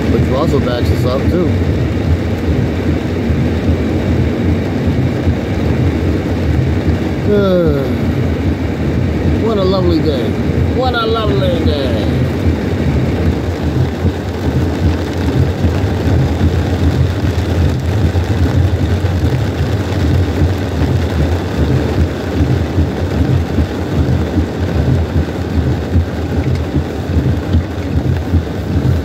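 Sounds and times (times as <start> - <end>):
deep low rumble: 0.0 - 29.0
heavy rain on a car roof: 0.0 - 29.0.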